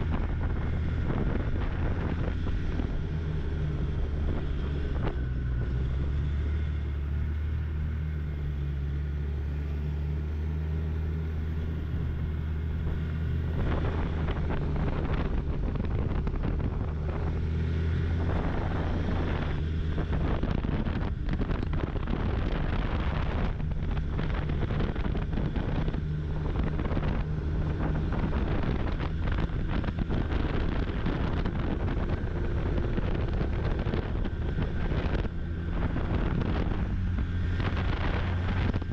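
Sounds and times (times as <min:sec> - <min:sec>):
snowmobile engine running: 0:00.0 - 0:38.9
wind buffeting microphone: 0:00.0 - 0:38.9.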